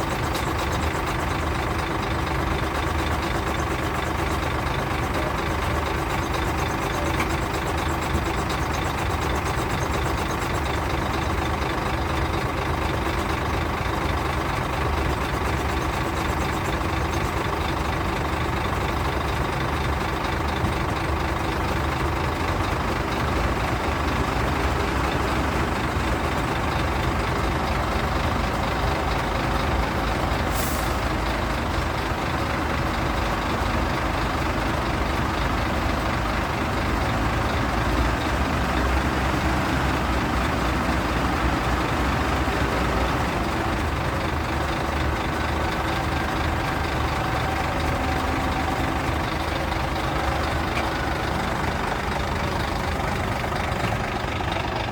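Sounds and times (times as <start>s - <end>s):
diesel truck engine rumbling: 0.0s - 54.9s.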